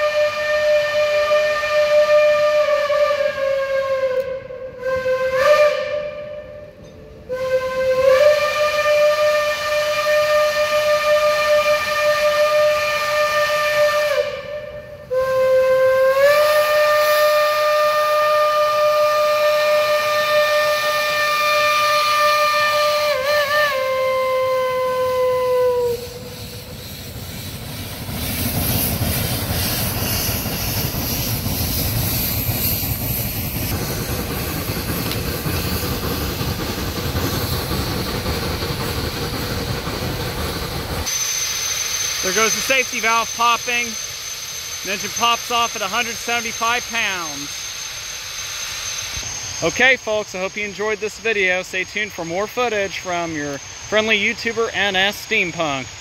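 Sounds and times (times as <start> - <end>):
steam locomotive whistle blasts: 0.0 - 36.5, 41.0 - 56.0
hissing steam: 0.0 - 56.0
locomotive working exhaust: 0.0 - 56.0.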